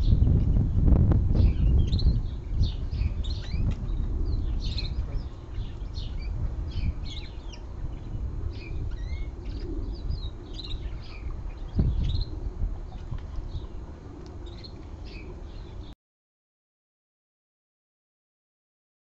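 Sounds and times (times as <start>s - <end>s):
low steady rumble: 0.0s - 16.0s
small birds chirping: 0.0s - 16.0s.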